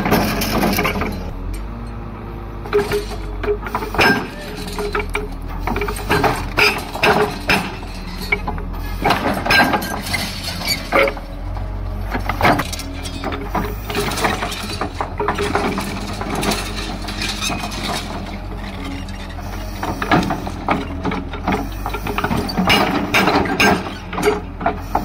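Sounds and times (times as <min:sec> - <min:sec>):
concrete and metal debris crunching: 0:00.0 - 0:01.7, 0:02.7 - 0:25.0
diesel engine running: 0:00.0 - 0:25.0.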